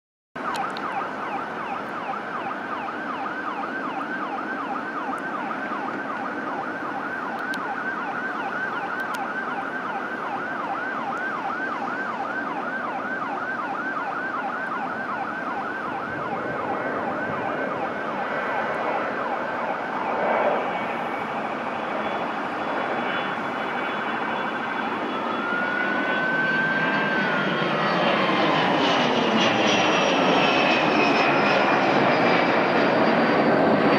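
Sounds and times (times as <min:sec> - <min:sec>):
jet engine whine: 0:00.4 - 0:33.9
jet engines roaring: 0:00.4 - 0:33.9
siren-like warble: 0:00.4 - 0:33.9.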